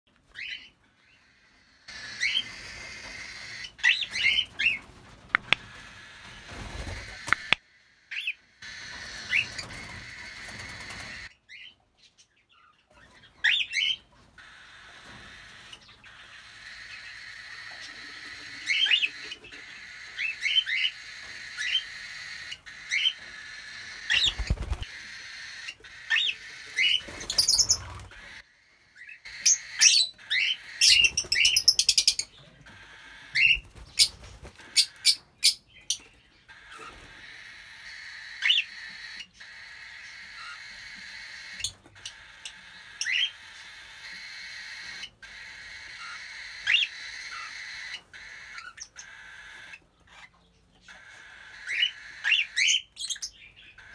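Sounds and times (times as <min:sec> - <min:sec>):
birds chirping: 0:00.1 - 0:53.9.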